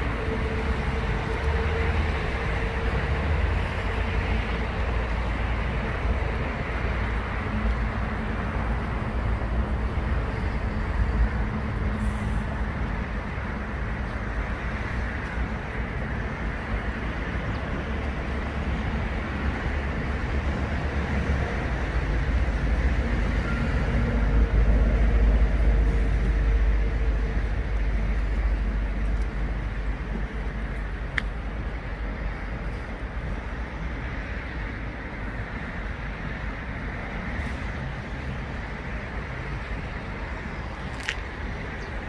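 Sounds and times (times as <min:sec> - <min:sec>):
outdoor low rumble: 0:00.0 - 0:42.0.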